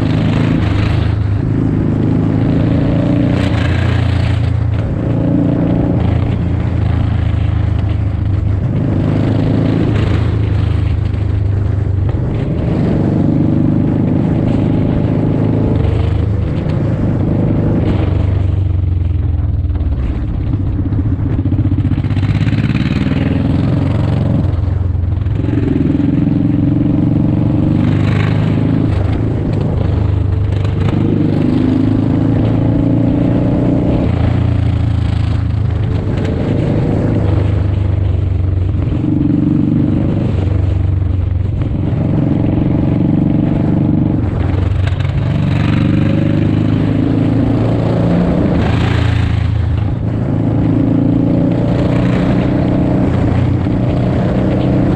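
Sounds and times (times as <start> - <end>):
motorcycle engine revving: 0.0 - 54.9
wind noise on microphone: 0.0 - 54.9.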